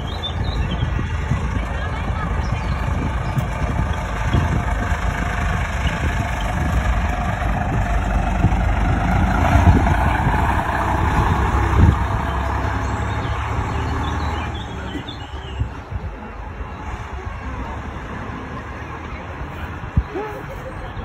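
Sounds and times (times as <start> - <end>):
bus diesel engine passing: 0.0 - 21.0.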